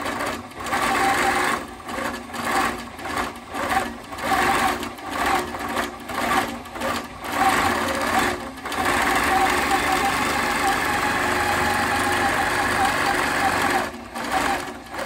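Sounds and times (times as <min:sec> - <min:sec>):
quilting machine stitching: 0:00.0 - 0:15.0.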